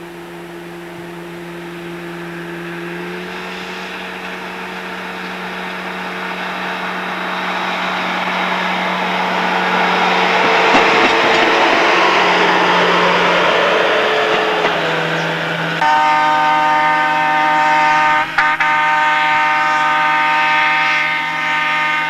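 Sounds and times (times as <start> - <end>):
steady low hum: 0.0 - 18.6
railway maintenance machine passing: 0.0 - 22.0.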